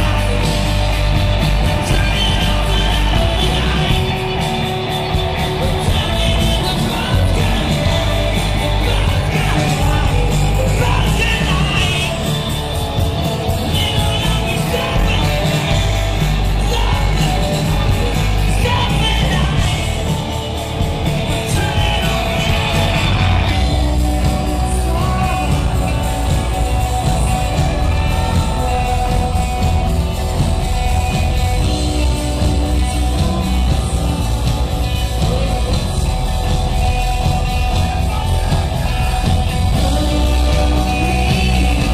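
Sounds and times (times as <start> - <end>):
drums: 0.0 - 41.9
electric bass: 0.0 - 41.9
electric guitar: 0.0 - 41.9
person singing: 0.0 - 41.9.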